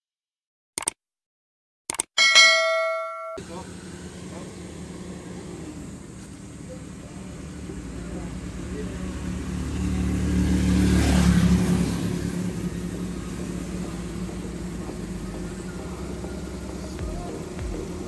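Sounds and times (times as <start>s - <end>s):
vehicle engine running: 2.6s - 18.0s.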